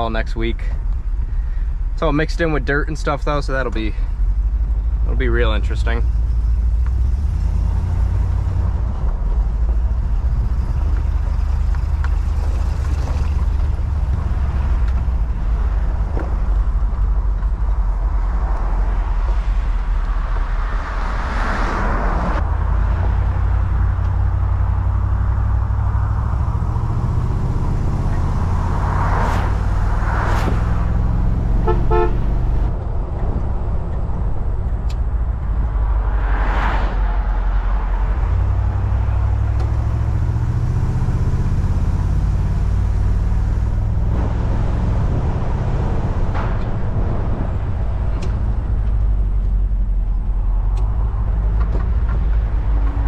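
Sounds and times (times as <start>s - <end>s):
cars passing by: 0.0s - 53.0s
deep car engine rumble: 0.0s - 53.0s
wind on open car: 5.8s - 53.0s.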